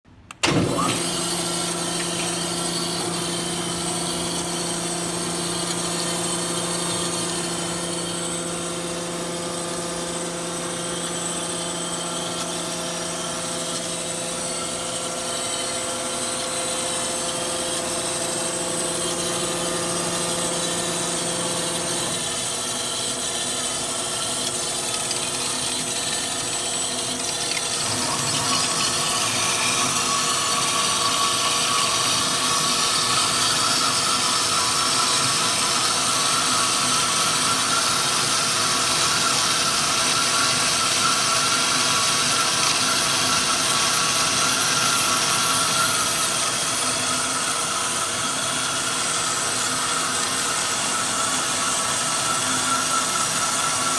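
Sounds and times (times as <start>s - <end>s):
band saw humming: 0.4s - 53.9s
high machine whine: 0.4s - 53.9s.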